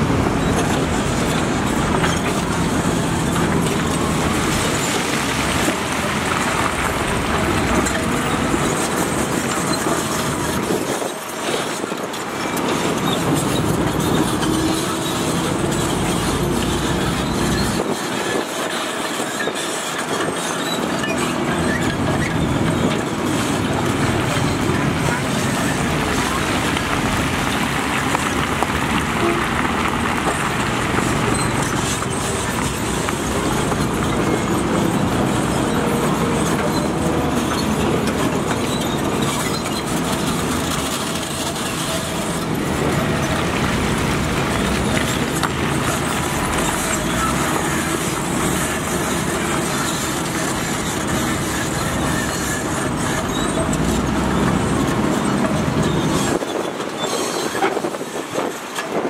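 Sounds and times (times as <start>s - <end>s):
heavy machinery rumbling: 0.0s - 59.0s.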